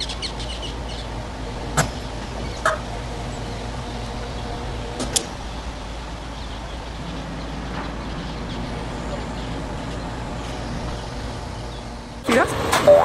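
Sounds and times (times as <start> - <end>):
heavy machinery engine rumble: 0.0 - 13.0.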